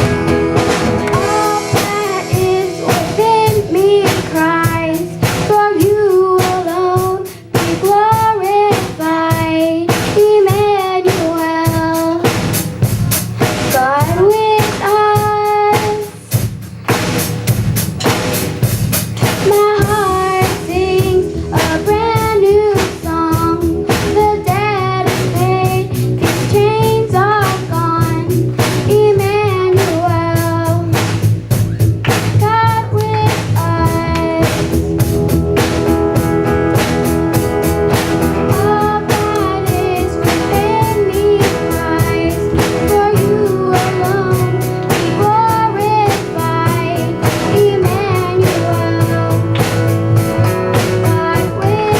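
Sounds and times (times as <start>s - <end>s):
guitar bass and drum kit: 0.0s - 51.9s
children and woman singing: 1.1s - 12.5s, 13.5s - 16.4s, 19.2s - 31.1s, 32.0s - 34.8s, 38.2s - 51.9s.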